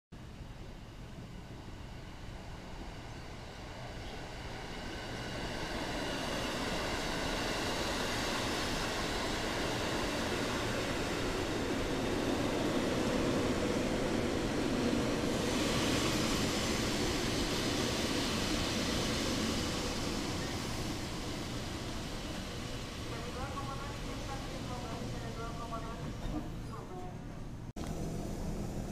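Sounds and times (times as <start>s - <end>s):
train wheels rumbling on rails: 0.2s - 28.9s
high hiss: 1.1s - 26.2s.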